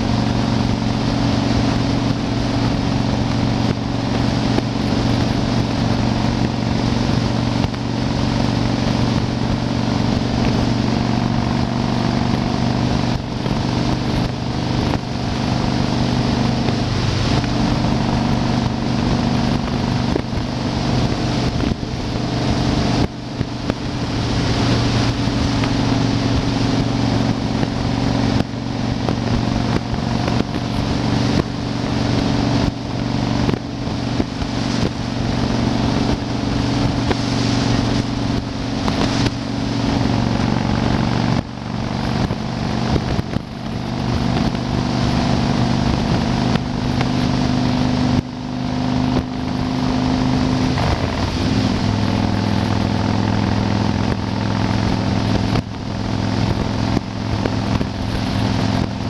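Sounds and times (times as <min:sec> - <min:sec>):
motorcycle engine cruising: 0:00.0 - 0:59.0
wind buffeting microphone: 0:00.0 - 0:59.0.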